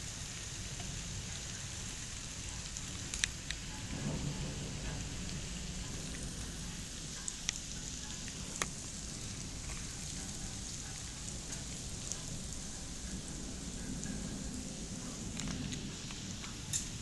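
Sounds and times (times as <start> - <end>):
hail and rain hissing: 0.0 - 17.0
hailstones ticking: 0.0 - 17.0.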